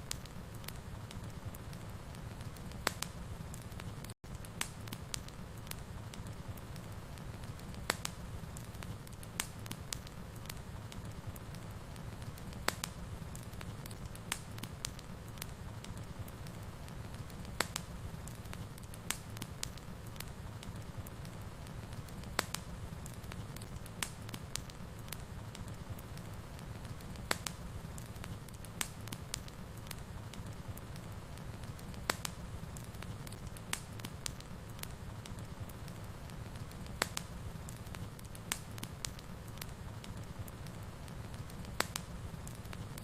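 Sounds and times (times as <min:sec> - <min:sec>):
fire crackling and popping: 0:00.0 - 0:43.0
fire flames rumbling: 0:00.0 - 0:43.0.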